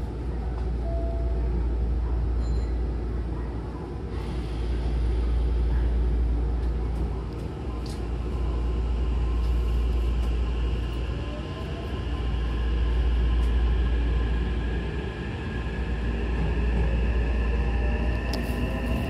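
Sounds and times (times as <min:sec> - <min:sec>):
train running gear rumble: 0:00.0 - 0:19.0.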